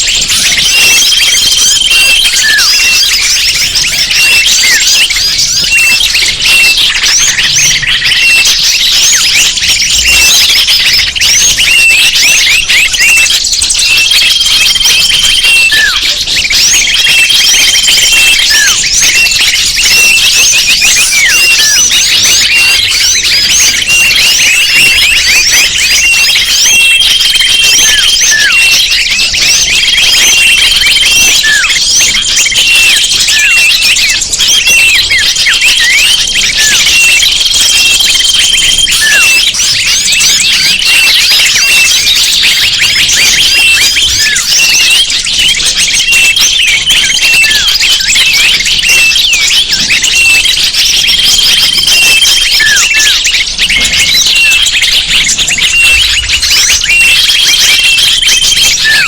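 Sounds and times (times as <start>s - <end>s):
small birds chirping and chattering: 0.0s - 59.0s.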